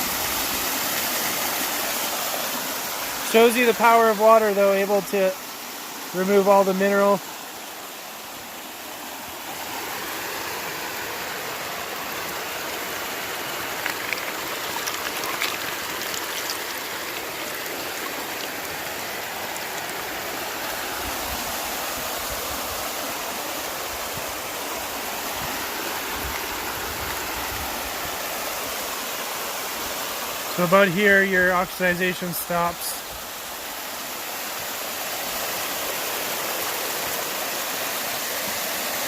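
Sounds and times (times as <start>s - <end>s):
waterfall and stream rushing: 0.0s - 39.0s.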